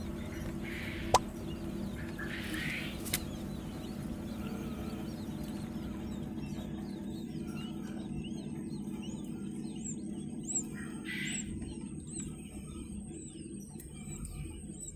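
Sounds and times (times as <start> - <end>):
chicks peeping: 0.0 - 14.9
incubator fan hum: 0.0 - 14.9.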